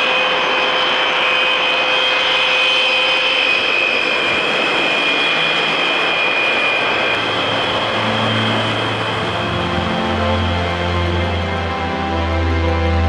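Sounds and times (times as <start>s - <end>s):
turboprop engines whining: 0.0s - 13.0s.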